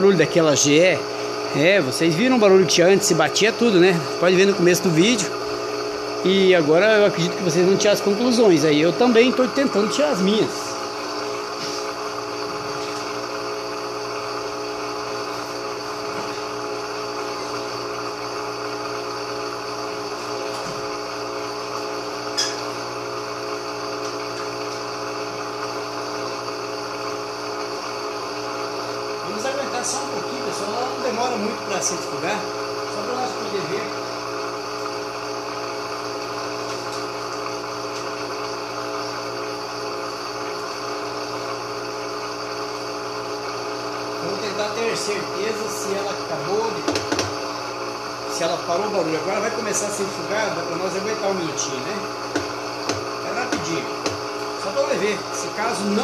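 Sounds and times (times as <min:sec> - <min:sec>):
washing machine spinning hum: 0:00.0 - 0:56.0.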